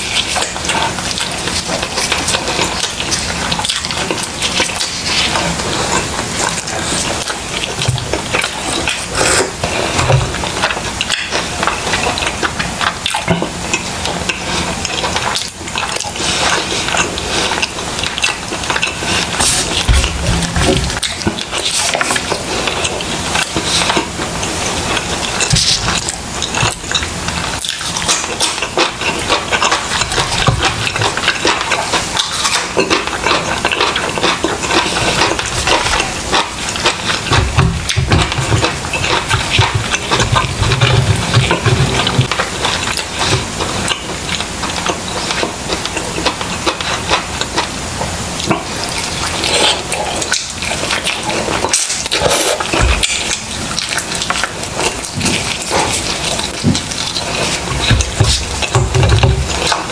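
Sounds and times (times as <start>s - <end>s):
man chewing and smacking: 0.0s - 59.9s.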